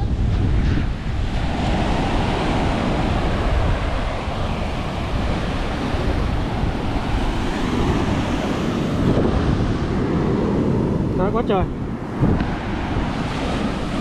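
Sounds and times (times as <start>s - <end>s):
waves breaking on a beach: 0.0s - 14.0s
wind buffeting microphone: 0.0s - 14.0s.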